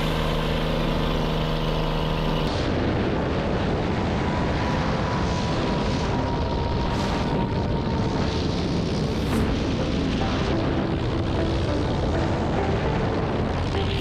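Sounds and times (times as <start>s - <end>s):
small plane engine drone: 0.0s - 14.0s
rush of wind: 2.5s - 14.0s.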